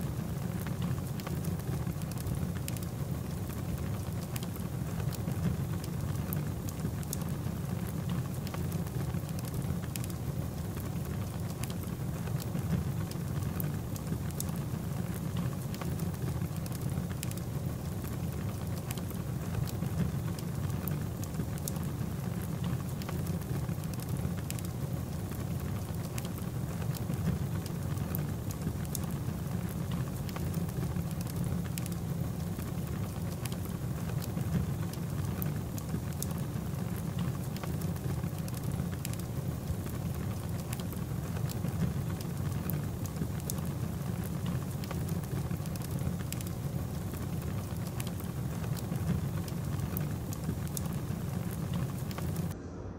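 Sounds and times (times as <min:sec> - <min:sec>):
fire rumbling and crackling: 0:00.0 - 0:52.6.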